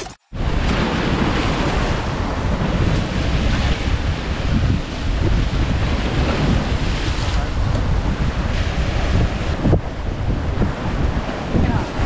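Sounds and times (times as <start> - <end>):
sea surf on rocks: 0.3 - 12.0
wind noise on microphone: 0.3 - 12.0.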